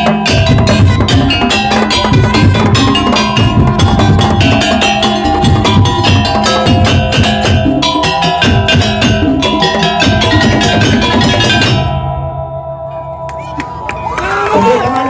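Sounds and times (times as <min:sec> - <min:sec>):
fast woodblock-like percussion: 0:00.0 - 0:12.3
held melodic tones: 0:00.0 - 0:15.0.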